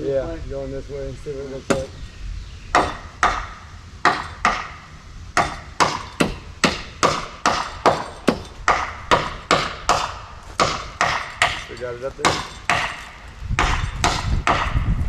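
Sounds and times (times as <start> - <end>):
hammer striking: 1.7 - 2.0, 2.7 - 14.9.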